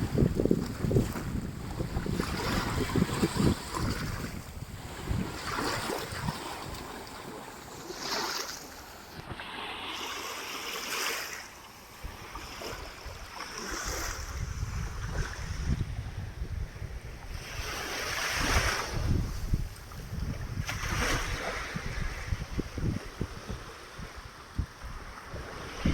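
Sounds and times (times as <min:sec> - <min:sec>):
wind on the microphone: 0:00.0 - 0:07.4, 0:12.0 - 0:25.9.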